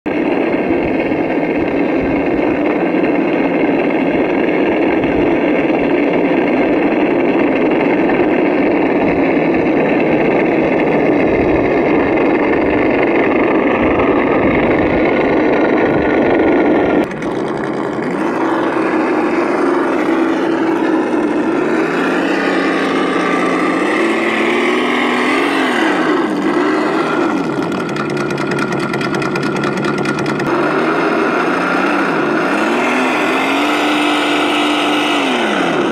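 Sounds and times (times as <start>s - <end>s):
electric motor drone: 0.1s - 35.9s
toy trucks driving through water: 2.6s - 35.9s.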